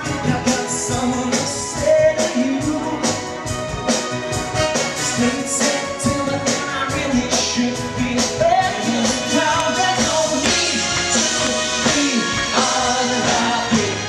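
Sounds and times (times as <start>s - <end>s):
person singing: 0.0s - 3.4s, 5.0s - 14.0s
band with steady beat: 0.0s - 14.0s.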